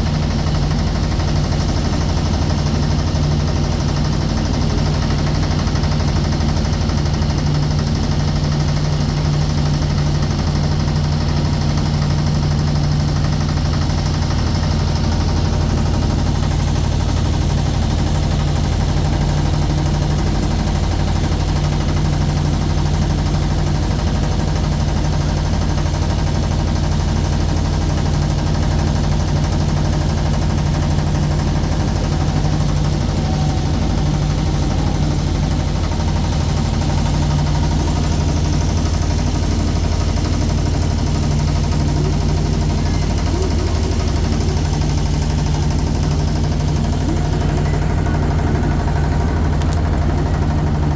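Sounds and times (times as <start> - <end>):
motorboat engine running: 0.0 - 50.9.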